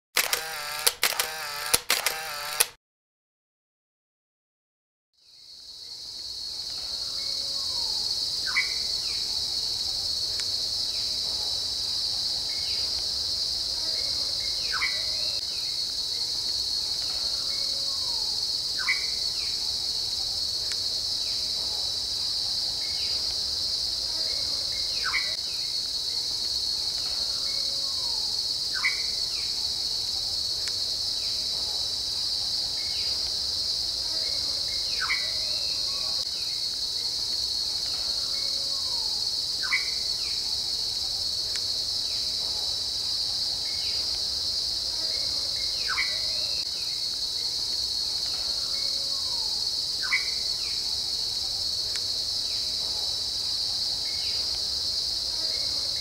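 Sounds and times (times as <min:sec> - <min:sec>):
insect chorus trilling: 0:05.3 - 0:56.0.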